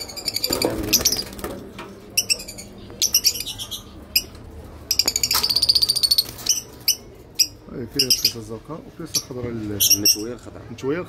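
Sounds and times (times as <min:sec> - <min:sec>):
parrots chirping and squawking: 0:00.0 - 0:10.4.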